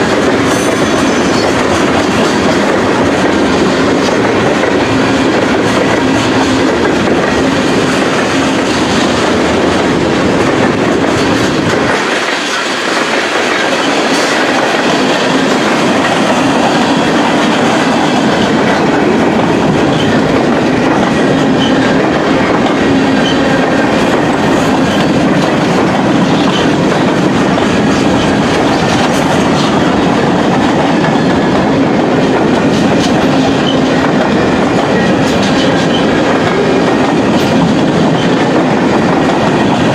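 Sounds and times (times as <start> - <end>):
freight train wheels clicking on rails: 0.0 - 39.9.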